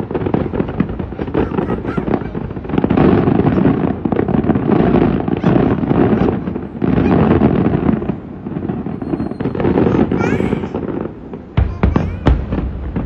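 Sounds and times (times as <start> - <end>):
fireworks bursting: 0.0 - 13.0
fireworks crackle: 0.0 - 13.0.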